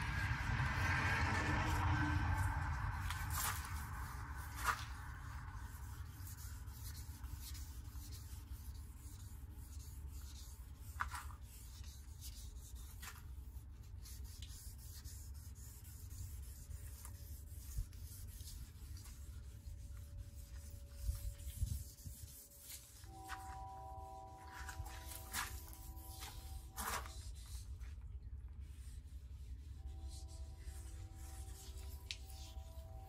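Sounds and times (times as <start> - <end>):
low steady rumble: 0.0 - 33.0
sandpaper rubbing on a hull: 0.3 - 33.0.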